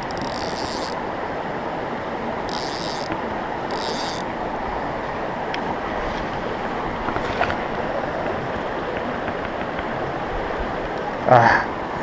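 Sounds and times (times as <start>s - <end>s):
creek and waterfall rushing: 0.0s - 12.0s.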